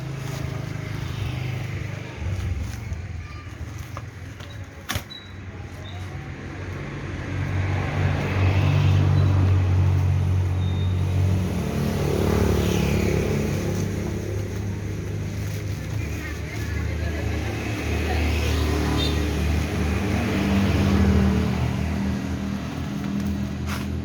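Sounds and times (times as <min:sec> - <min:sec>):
vehicle passing by: 0:00.0 - 0:03.0, 0:06.6 - 0:24.0.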